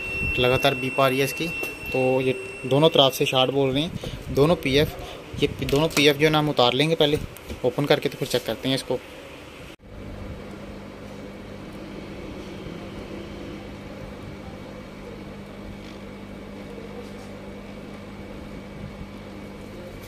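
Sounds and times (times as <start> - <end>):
hot-air station blowing: 0.0 - 20.0.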